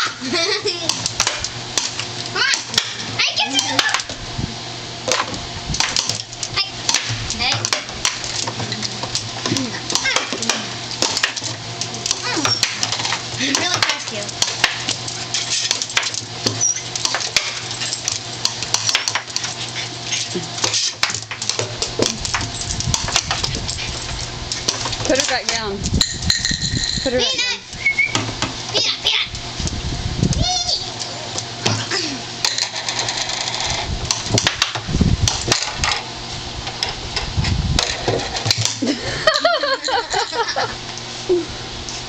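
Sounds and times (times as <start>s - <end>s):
blower fan running: 0.0s - 42.0s.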